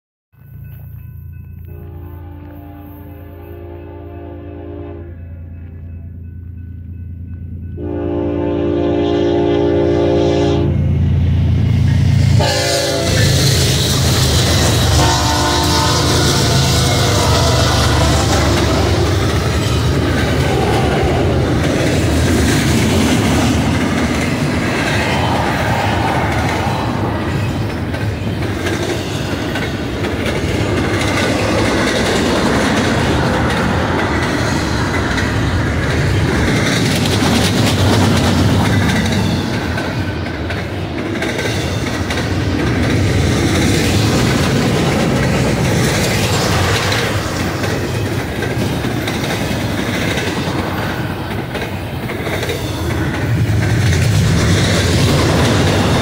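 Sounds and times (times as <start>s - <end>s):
freight train wheels rumbling: 0.4s - 56.0s
clickety-clack of train wheels: 11.0s - 56.0s.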